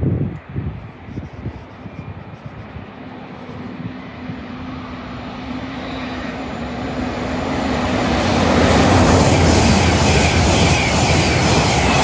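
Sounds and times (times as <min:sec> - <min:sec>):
train roaring past: 0:00.5 - 0:12.0.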